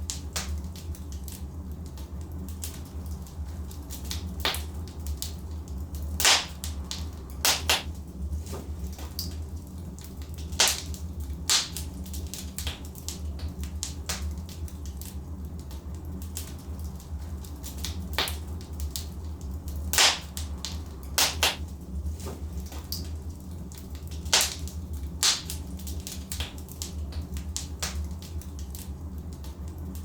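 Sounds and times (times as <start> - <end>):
fire low rumble: 0.0 - 30.0
fireplace logs crackling: 0.0 - 30.0.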